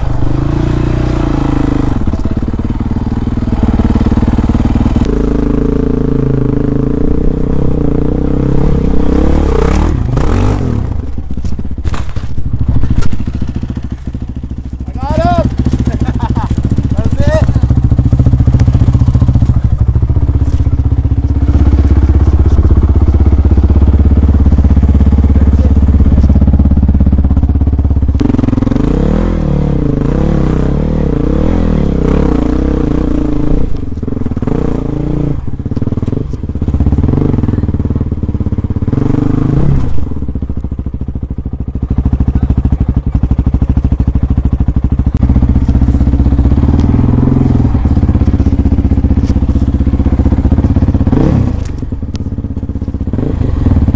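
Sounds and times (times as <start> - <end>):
dirt bike engine revving: 0.0 - 41.0, 41.6 - 51.9, 52.5 - 53.9.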